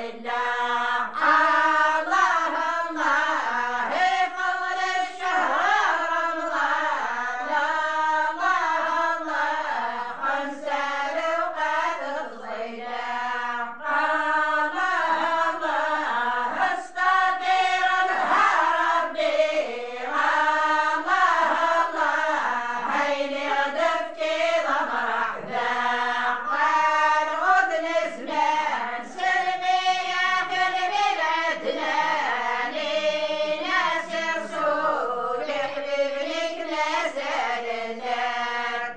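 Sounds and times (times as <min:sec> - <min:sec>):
women chanting together: 0:00.0 - 0:38.9.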